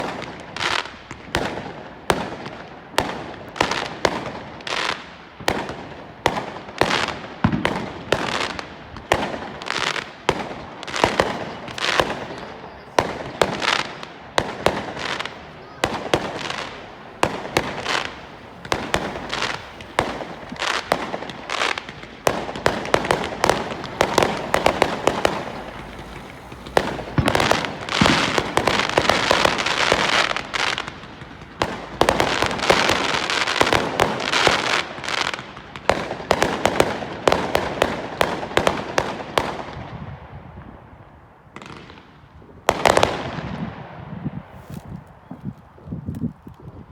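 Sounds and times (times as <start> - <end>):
fireworks crackle: 0.0 - 40.0, 41.5 - 46.9
fireworks exploding: 0.0 - 46.6.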